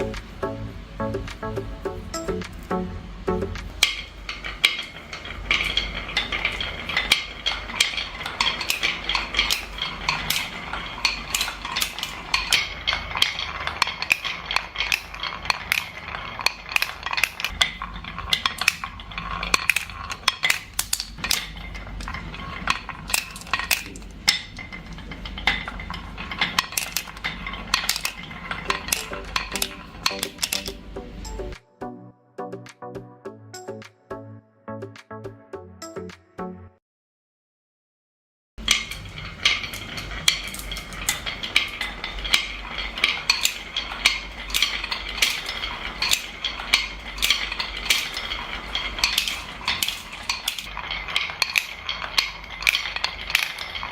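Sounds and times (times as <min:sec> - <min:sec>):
marbles rolling and clacking: 0:00.0 - 0:31.6, 0:38.6 - 0:53.9.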